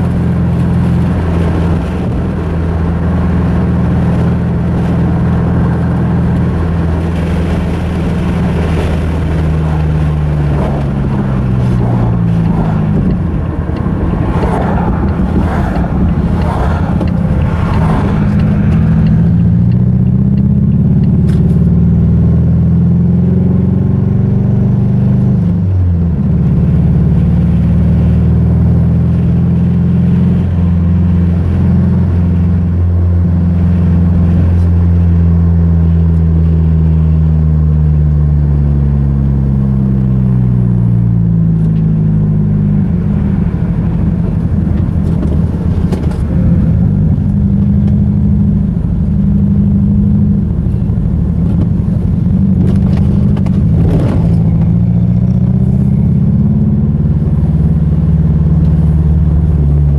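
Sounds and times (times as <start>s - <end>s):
car engine running rough: 0.0s - 59.9s.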